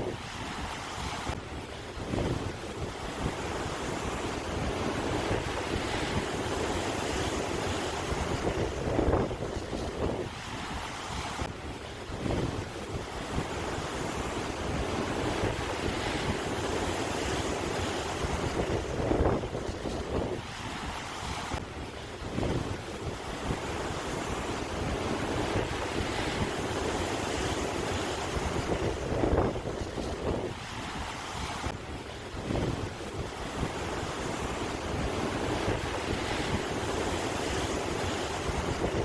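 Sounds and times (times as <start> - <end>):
sea waves washing in: 0.0 - 39.0
wind buffeting microphone: 0.0 - 39.0.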